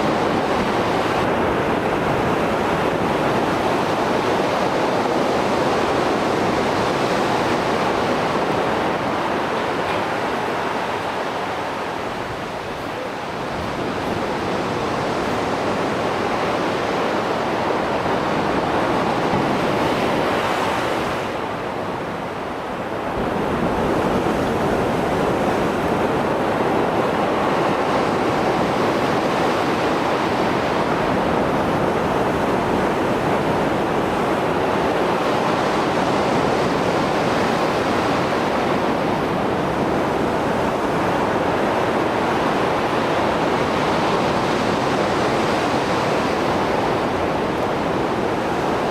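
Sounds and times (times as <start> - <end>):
waves breaking and washing in: 0.0 - 48.9.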